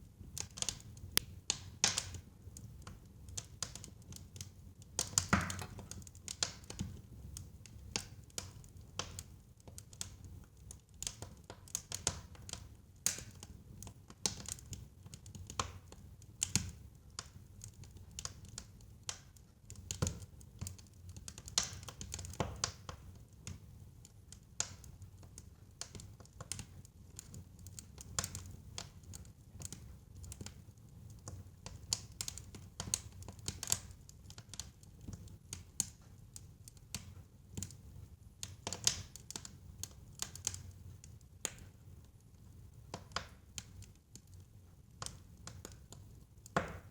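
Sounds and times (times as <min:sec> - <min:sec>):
wood fire crackling and popping: 0:00.2 - 0:46.9.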